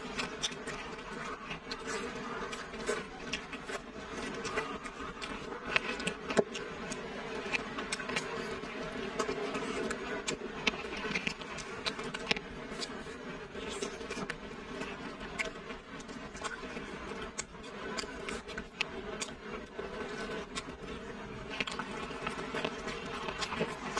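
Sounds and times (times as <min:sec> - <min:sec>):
wet chewing and lip smacks: 0:00.1 - 0:23.8.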